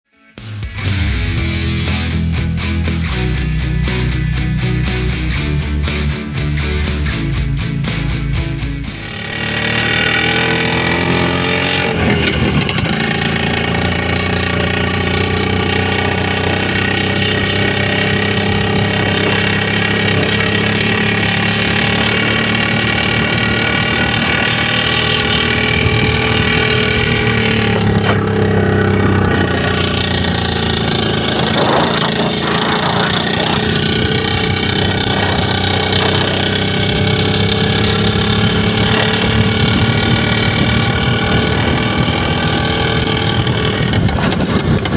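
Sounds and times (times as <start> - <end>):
two-stroke motorcycle engine: 0.6 - 44.9.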